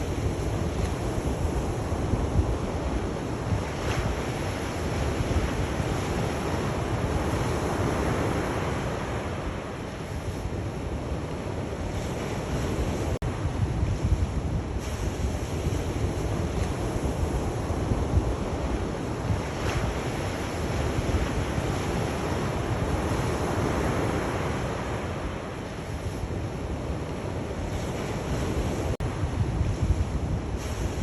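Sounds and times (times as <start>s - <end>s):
sea waves washing on shore: 0.0s - 31.0s.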